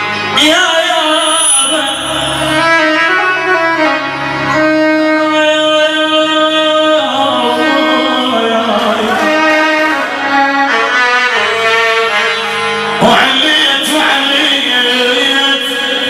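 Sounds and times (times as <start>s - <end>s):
amplified instrumental melody: 0.0s - 16.0s
man singing into microphone: 0.1s - 10.4s, 13.0s - 16.0s.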